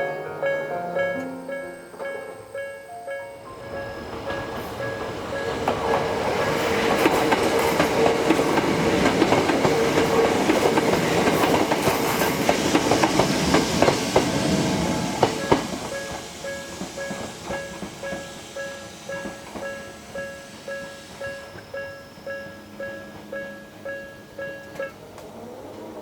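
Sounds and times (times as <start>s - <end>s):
level crossing warning bell: 0.0s - 11.7s, 15.2s - 25.1s
train whine: 0.0s - 26.0s
train wheels clacking on rails: 3.6s - 26.0s.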